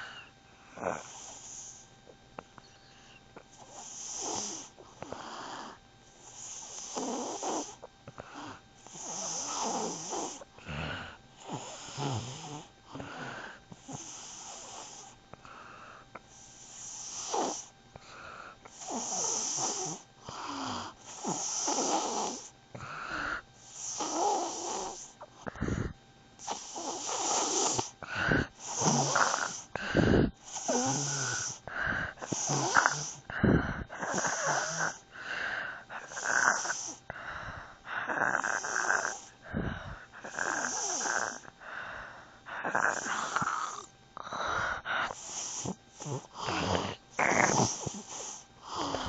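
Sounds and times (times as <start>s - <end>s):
rasping snoring breaths: 0.0s - 1.9s, 2.8s - 49.0s.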